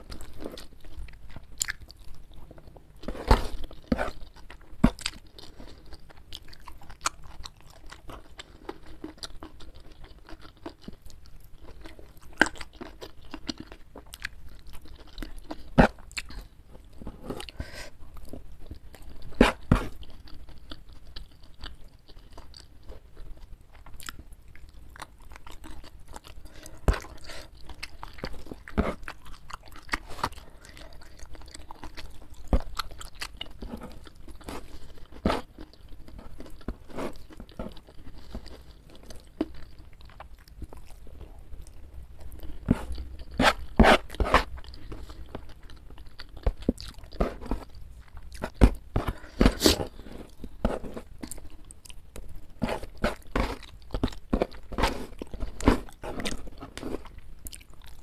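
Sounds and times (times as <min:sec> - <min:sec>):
chewing crunches: 0:00.0 - 0:58.0.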